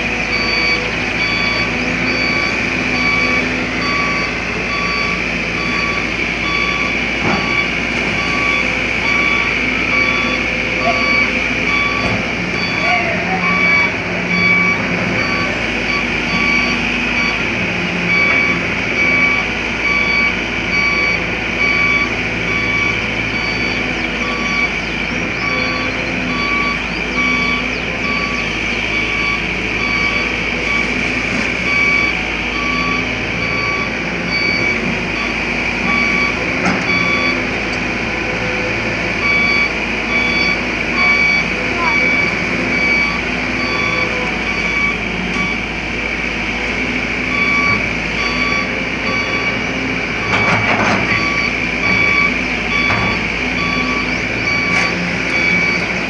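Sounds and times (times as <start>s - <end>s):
excavator diesel engine: 0.0s - 56.0s
high warning beeps: 0.3s - 31.0s, 39.2s - 45.7s, 47.2s - 56.0s.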